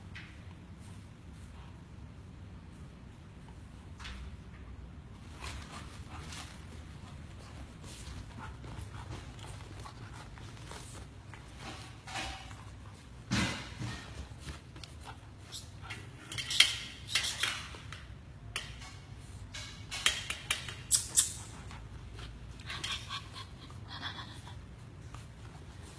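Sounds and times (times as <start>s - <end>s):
low background hum: 0.0s - 25.9s.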